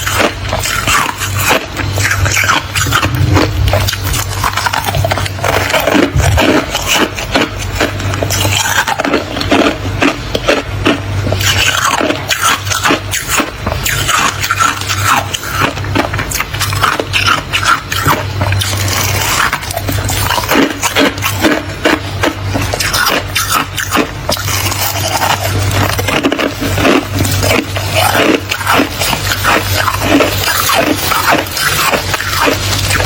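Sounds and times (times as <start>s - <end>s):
freezer frost being scraped: 0.0s - 33.0s.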